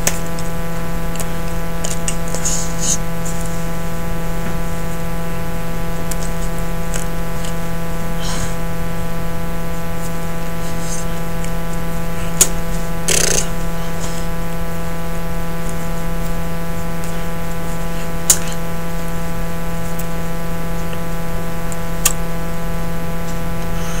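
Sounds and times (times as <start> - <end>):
steady buzzing hum: 0.0 - 24.0.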